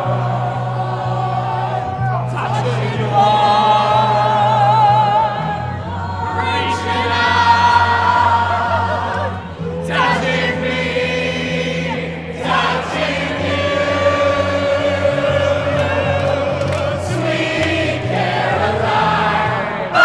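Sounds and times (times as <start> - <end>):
crowd singing along: 0.0 - 20.0
loud amplified music: 0.0 - 20.0.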